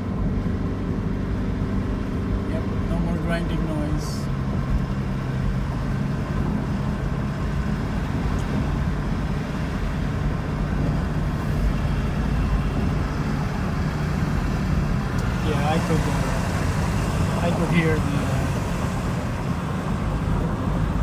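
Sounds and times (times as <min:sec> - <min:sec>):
road and tyre noise in car: 0:00.0 - 0:21.0.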